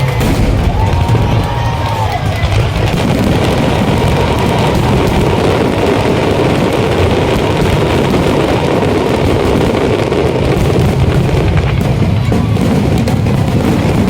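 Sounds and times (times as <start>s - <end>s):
fireworks crackling: 0.0s - 14.0s
fireworks rumbling barrage: 0.0s - 14.0s.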